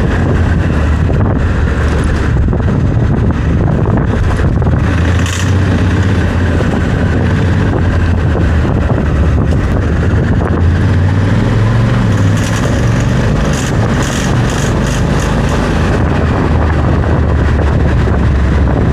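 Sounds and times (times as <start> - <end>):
motorcycle engine running: 0.0 - 18.9
wind rushing past microphone: 0.0 - 18.9.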